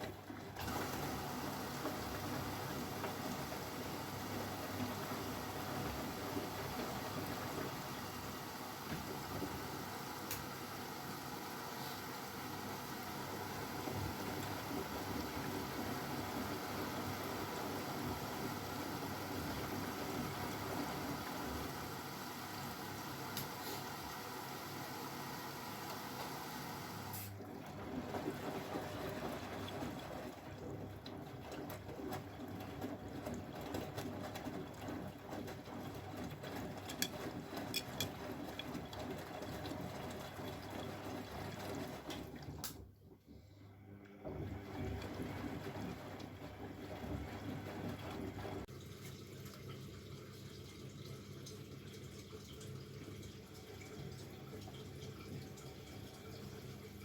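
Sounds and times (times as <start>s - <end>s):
washing machine running: 0.0s - 57.0s
water running in machine: 0.0s - 57.0s.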